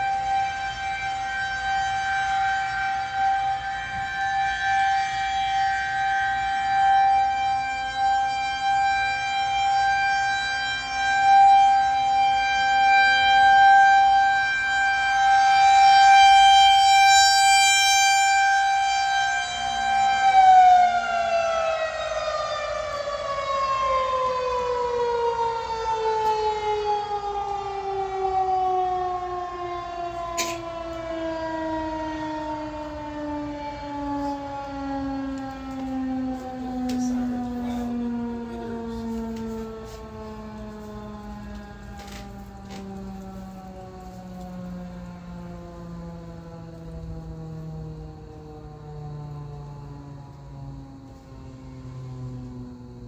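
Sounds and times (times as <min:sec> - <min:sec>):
rotating warning siren: 0:00.0 - 0:53.0.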